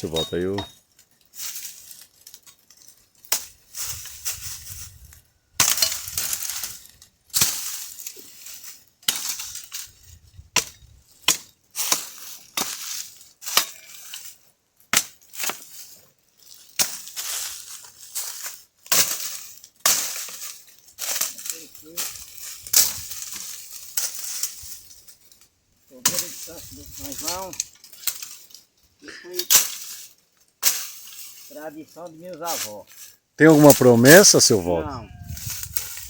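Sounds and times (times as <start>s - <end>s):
sticks clattering onto pile: 0.0s - 36.0s.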